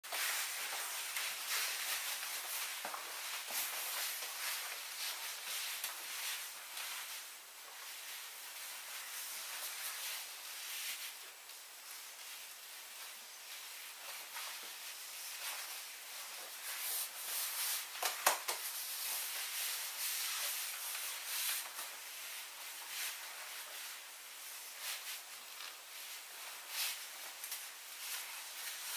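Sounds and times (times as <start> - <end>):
stiff plastic skirt rustling: 0.0 - 28.9.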